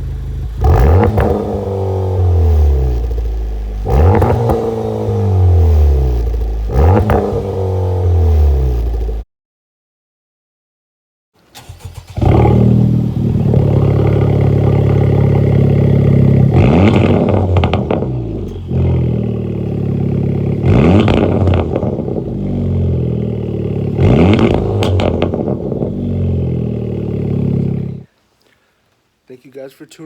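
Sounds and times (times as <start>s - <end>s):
car engine idling and revving: 0.0s - 9.2s, 11.6s - 28.1s.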